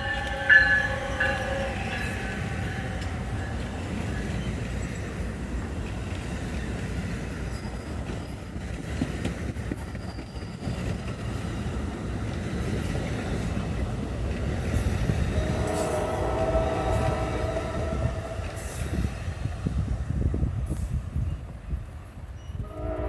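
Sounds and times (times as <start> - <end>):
train coaches rumbling on rails: 0.0 - 23.0.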